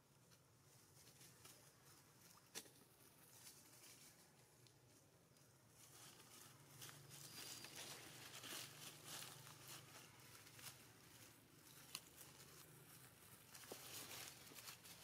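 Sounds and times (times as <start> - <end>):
crackling of dry leaf litter: 0.9 - 15.0.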